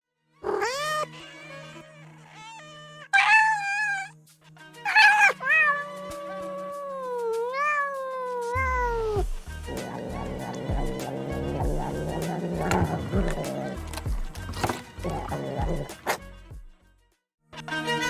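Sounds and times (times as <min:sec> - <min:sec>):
cats meowing: 0:00.4 - 0:04.1, 0:04.9 - 0:16.2.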